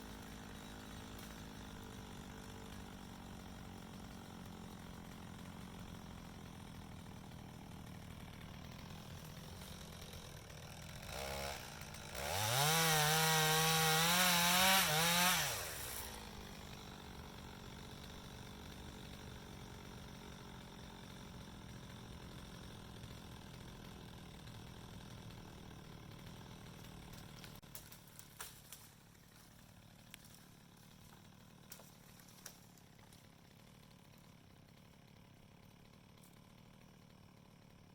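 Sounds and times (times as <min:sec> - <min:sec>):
chainsaw idling and revving: 0:00.0 - 0:37.9.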